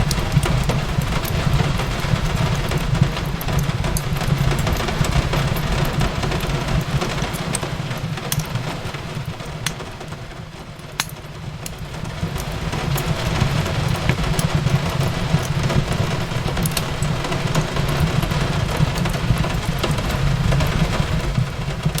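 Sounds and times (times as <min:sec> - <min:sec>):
rain hissing on a window: 0:00.0 - 0:22.0
wood fire crackling: 0:00.0 - 0:22.0.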